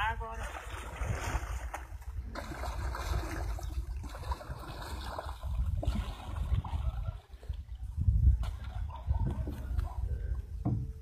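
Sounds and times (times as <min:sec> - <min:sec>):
paddle splashing water: 0:00.0 - 0:11.0
water washing around hull: 0:00.0 - 0:11.0.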